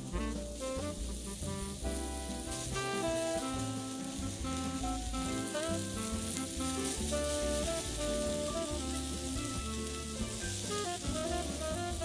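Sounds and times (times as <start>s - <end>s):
bossa nova music: 0.0s - 12.0s
chicken sizzling on a grill: 0.0s - 12.0s.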